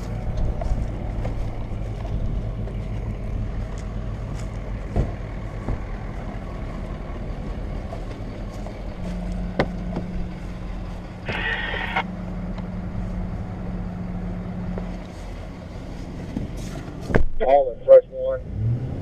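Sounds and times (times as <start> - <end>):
pickup truck engines running: 0.0 - 19.0.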